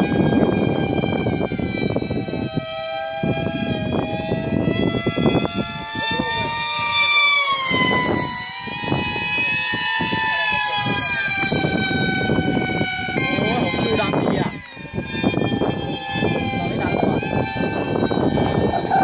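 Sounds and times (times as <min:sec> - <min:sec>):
model plane motors whining: 0:00.0 - 0:19.0
wind rumble on microphone: 0:00.0 - 0:19.0.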